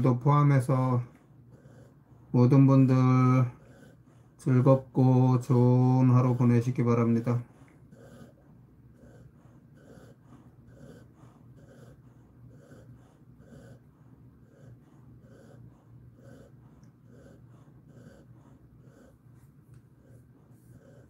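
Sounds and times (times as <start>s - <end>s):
dog breathing in sleep: 0.0s - 21.0s
steady low hum: 0.0s - 21.0s.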